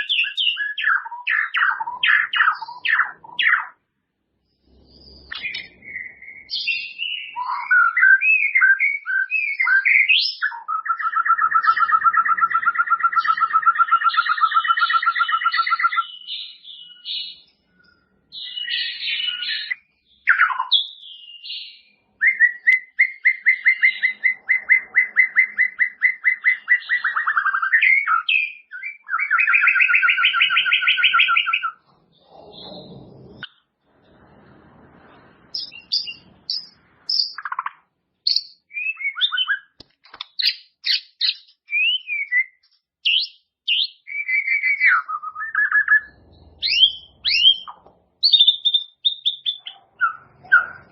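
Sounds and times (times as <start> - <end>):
songbird singing: 0.0 - 34.4, 35.1 - 50.9.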